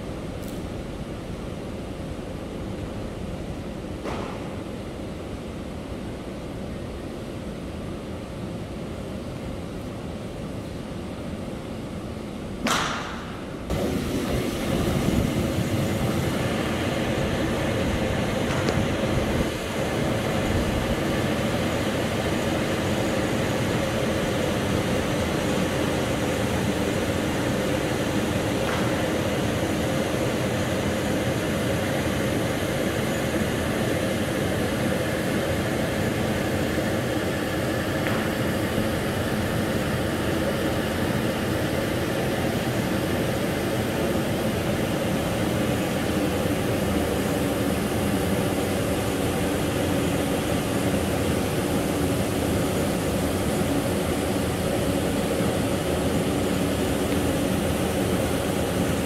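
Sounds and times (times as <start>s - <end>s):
air conditioning hum: 0.0s - 59.0s.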